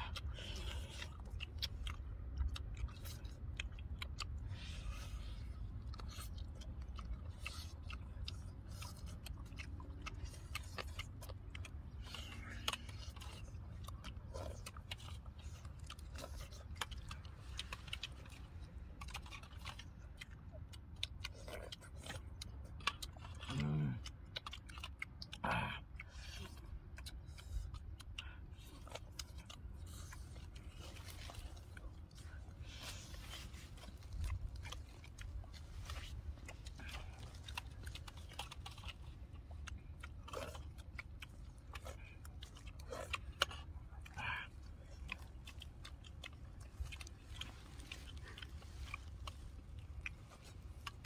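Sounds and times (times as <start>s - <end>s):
people chewing meat: 0.0s - 51.0s.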